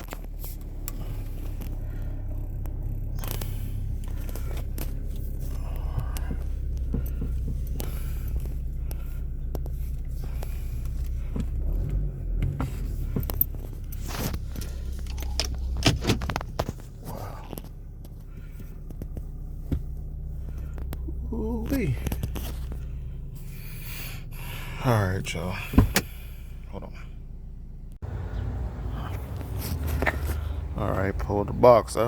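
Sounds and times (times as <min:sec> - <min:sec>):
steady low hum: 0:00.1 - 0:32.0.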